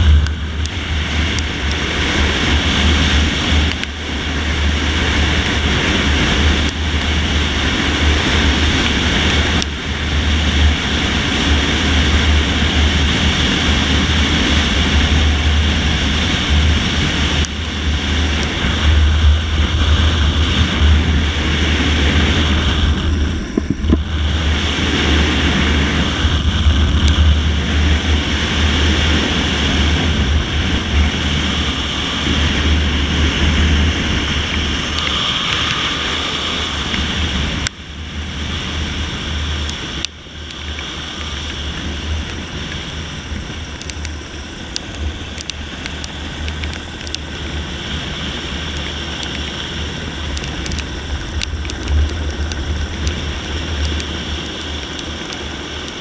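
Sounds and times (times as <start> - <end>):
helicopter drone: 0.0 - 56.0
wind rushing on microphone: 0.0 - 56.0.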